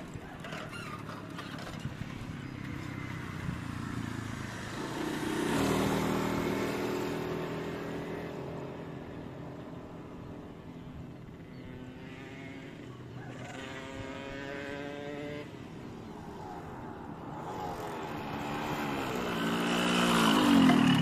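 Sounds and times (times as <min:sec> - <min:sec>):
two-stroke motorcycle engine: 0:00.0 - 0:16.4, 0:17.3 - 0:21.0.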